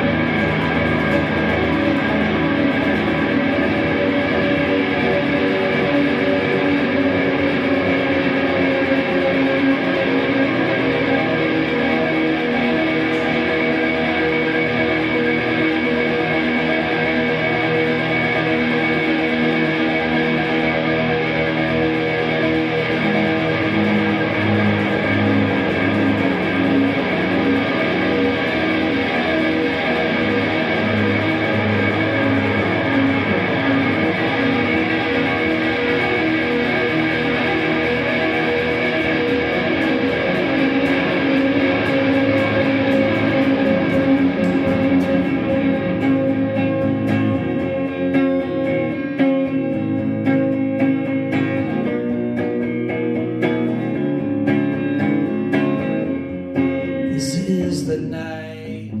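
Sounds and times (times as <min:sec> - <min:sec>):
electric guitar music: 0:00.0 - 0:59.0.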